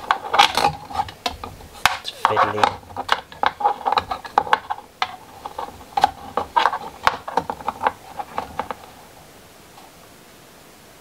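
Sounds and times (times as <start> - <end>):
ruler and pencil clicks and scrapes: 0.0 - 8.9.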